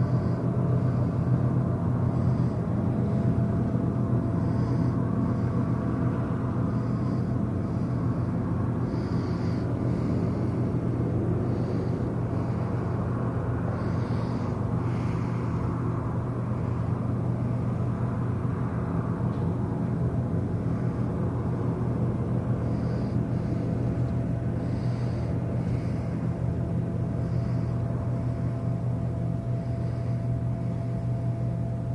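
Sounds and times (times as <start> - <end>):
ship machinery rumbling: 0.0 - 31.0.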